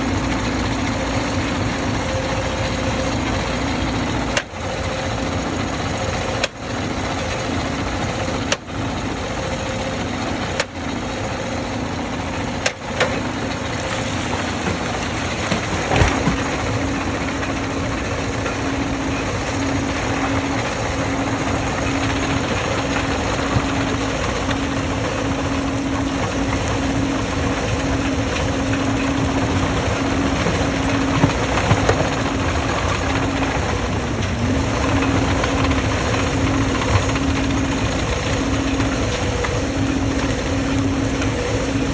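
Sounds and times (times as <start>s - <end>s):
stone crusher machinery drone: 0.0s - 41.9s.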